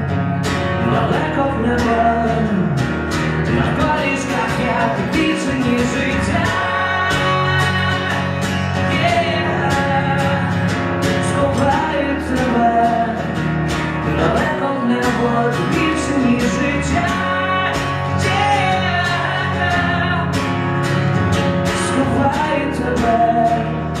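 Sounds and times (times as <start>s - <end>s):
acoustic guitar strumming: 0.0s - 24.0s
man singing into a microphone: 0.7s - 13.4s, 14.0s - 20.6s, 21.6s - 24.0s.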